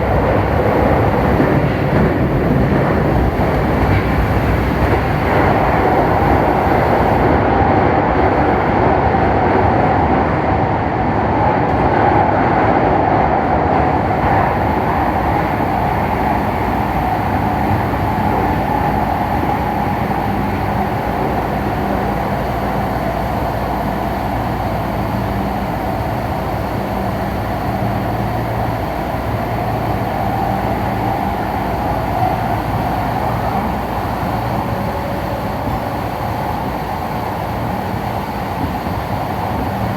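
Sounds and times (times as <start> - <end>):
train wheels rumbling: 0.0 - 7.6, 11.9 - 39.9.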